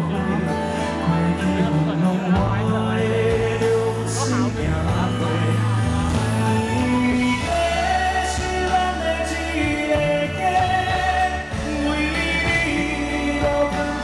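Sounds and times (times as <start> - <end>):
live band music: 0.0 - 14.0
singer holding long notes: 0.0 - 14.0
steady bass line: 0.0 - 14.0.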